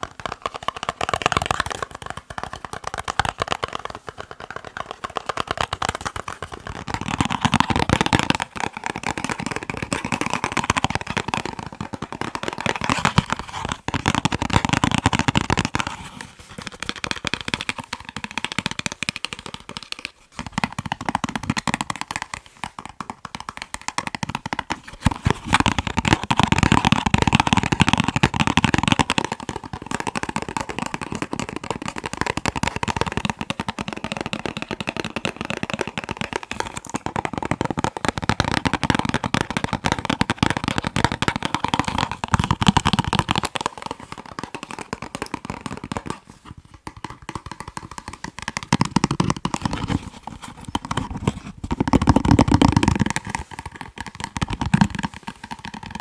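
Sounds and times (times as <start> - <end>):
fingers tapping on boxes: 0.0 - 56.0.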